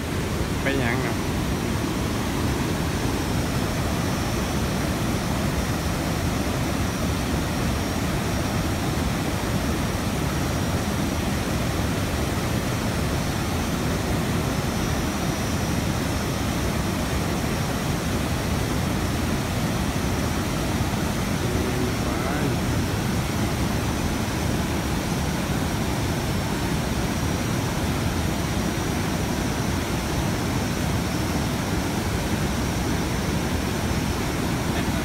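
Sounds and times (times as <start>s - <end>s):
water rushing over rock ledges: 0.0s - 35.0s.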